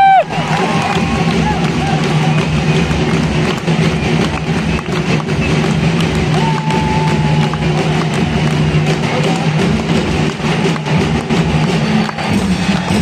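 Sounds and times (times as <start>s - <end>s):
loud crowd noise: 0.0s - 13.0s
music over loudspeakers: 0.0s - 13.0s.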